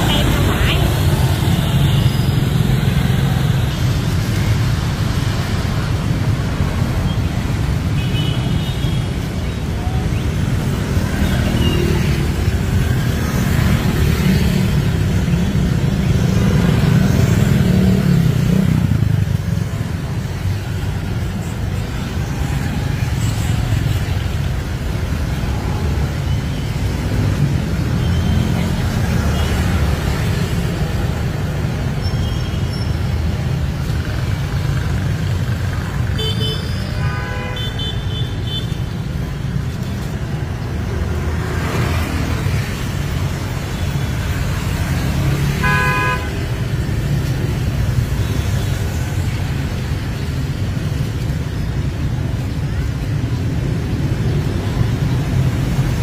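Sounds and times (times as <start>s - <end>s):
motorbikes and cars passing: 0.0s - 56.0s.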